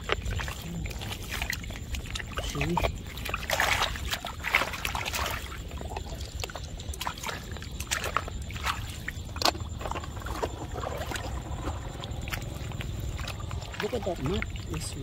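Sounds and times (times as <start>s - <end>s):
feet wading in water: 0.0s - 15.0s
muddy water sloshing and splashing: 0.0s - 15.0s.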